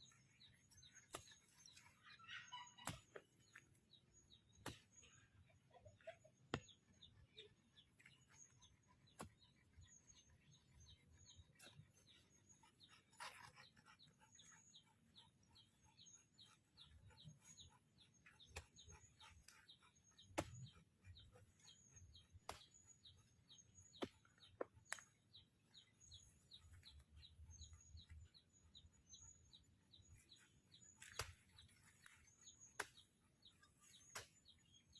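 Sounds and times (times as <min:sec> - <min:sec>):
faint bird chirping: 0:00.0 - 0:34.9.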